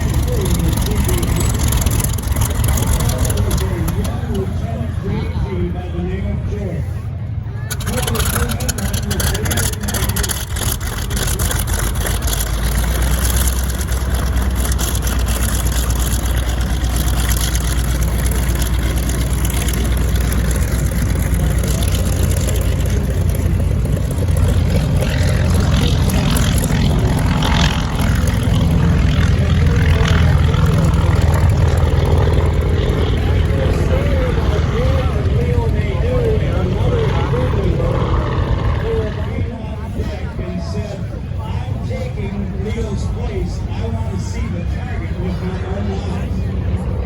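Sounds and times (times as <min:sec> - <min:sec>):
aircraft engines rumbling: 0:00.0 - 0:47.0.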